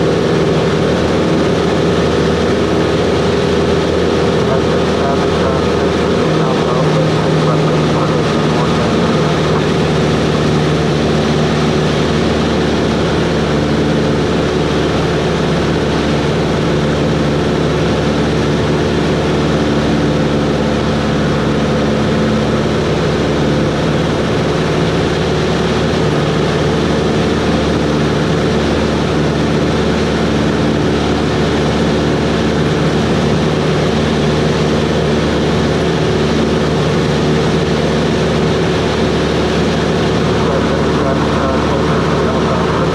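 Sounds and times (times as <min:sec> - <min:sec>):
light airplane engine droning: 0:00.0 - 0:42.9.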